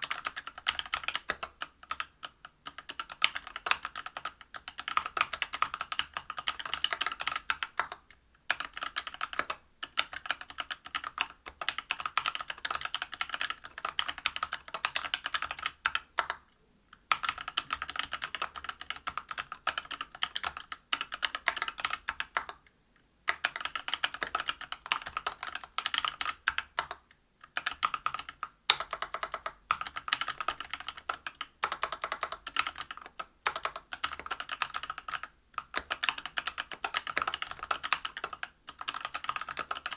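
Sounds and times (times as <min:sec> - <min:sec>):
typing on a mechanical keyboard: 0:00.0 - 0:22.6, 0:23.3 - 0:39.9.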